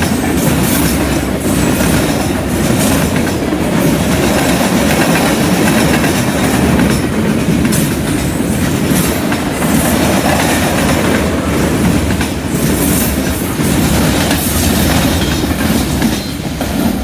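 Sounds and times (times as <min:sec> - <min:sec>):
clickety-clack over rail joints: 0:00.0 - 0:17.0
freight train wheels rumbling: 0:00.0 - 0:17.0.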